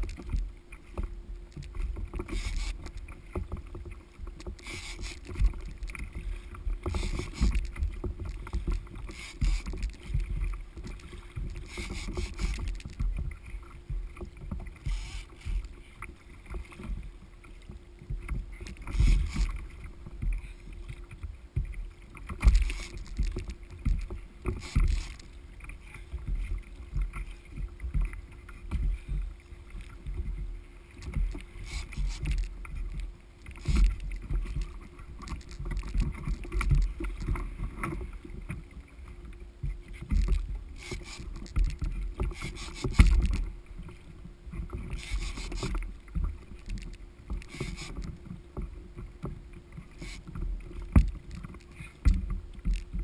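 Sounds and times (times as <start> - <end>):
water splashing against a hull: 0.0 - 53.0.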